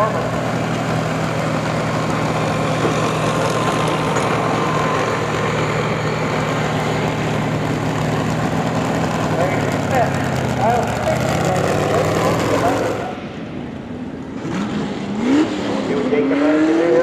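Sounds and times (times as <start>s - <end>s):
heavy engine running steadily: 0.0s - 15.2s.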